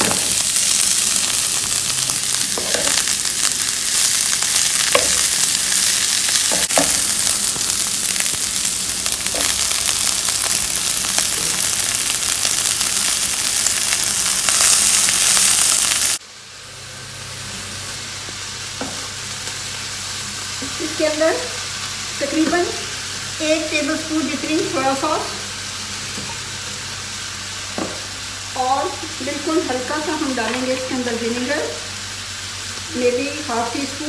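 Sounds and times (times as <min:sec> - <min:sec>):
vegetables sizzling in frying pan: 0:00.0 - 0:34.0.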